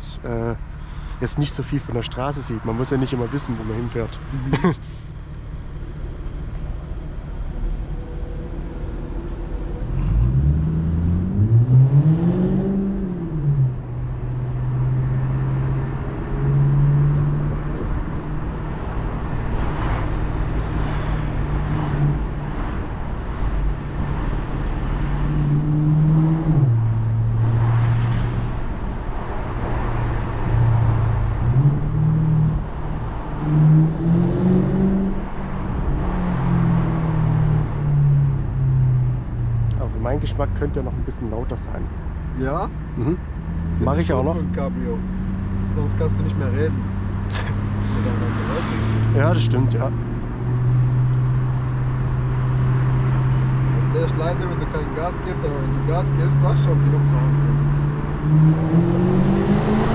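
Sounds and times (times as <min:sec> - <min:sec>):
car engine and exhaust: 0:00.0 - 0:59.9.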